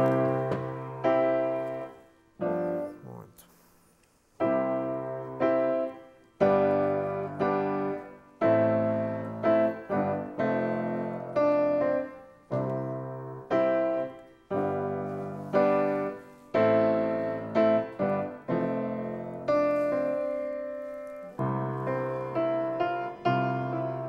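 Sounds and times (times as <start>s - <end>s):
piano playing slow chords: 0.0s - 3.2s, 4.4s - 24.0s.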